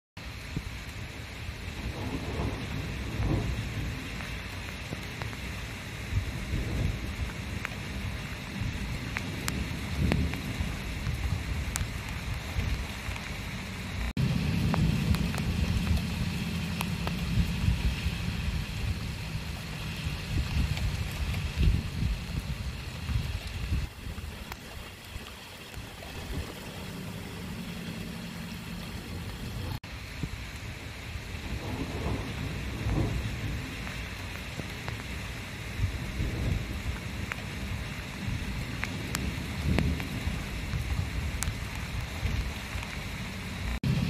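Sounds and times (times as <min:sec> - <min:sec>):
steady rain falling: 0:00.2 - 0:44.0
storm hiss: 0:00.2 - 0:44.0
low rumble: 0:00.3 - 0:24.5, 0:25.9 - 0:42.9, 0:43.6 - 0:44.0.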